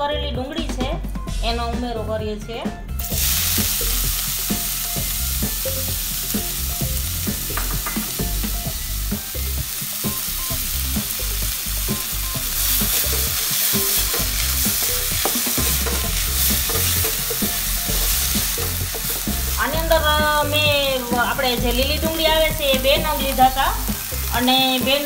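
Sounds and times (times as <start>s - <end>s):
onions sizzling in butter: 3.0s - 25.0s.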